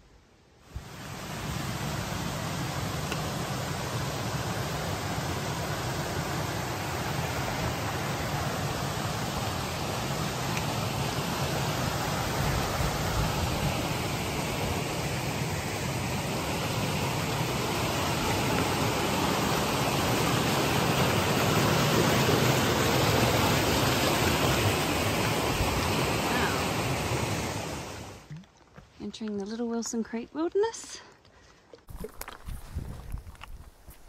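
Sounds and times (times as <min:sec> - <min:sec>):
creek roaring over boulders: 0:00.6 - 0:28.7.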